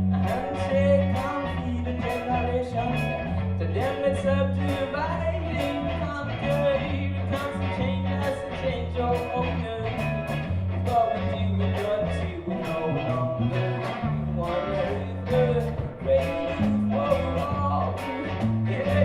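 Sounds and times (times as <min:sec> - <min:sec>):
live reggae band playing: 0:00.0 - 0:19.0
person singing: 0:00.0 - 0:19.0.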